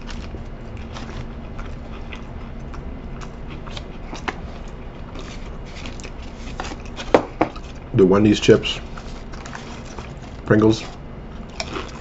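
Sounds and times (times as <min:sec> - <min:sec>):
close-up chewing crispy food: 0:00.0 - 0:12.0
steady low hum: 0:00.0 - 0:12.0.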